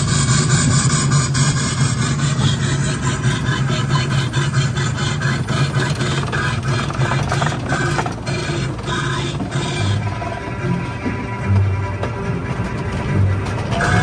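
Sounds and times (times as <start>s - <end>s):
ride train rumbling on track: 0.0s - 14.0s
wheels clicking and rattling: 0.0s - 14.0s.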